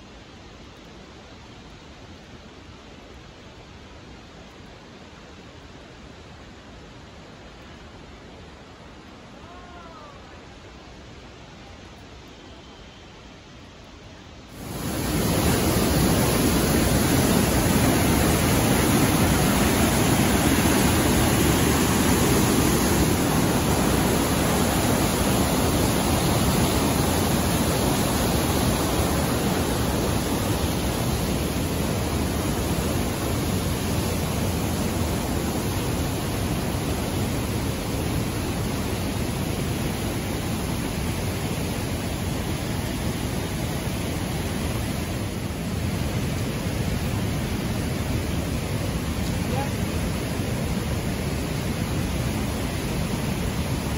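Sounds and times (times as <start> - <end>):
creek rushing through gorge: 0.0 - 53.9.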